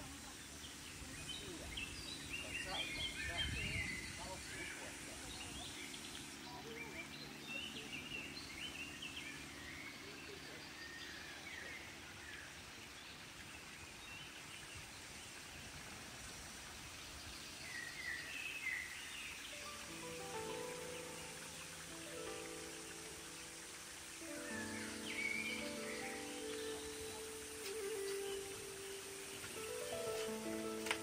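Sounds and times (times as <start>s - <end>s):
birds chirping: 0.0s - 15.4s, 16.8s - 31.0s
outdoor background noise: 0.0s - 31.0s.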